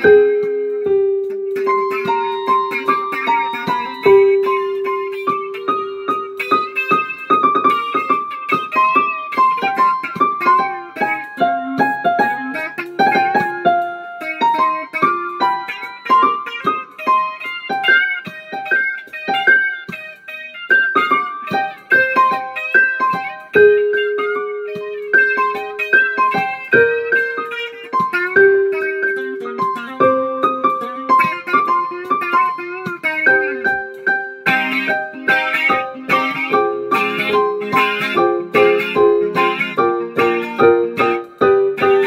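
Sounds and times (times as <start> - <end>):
electric guitar melody: 0.0 - 42.0.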